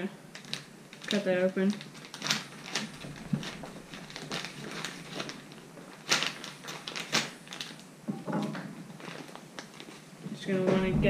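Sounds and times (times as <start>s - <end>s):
plastic crinkling and crackling: 0.0s - 11.0s.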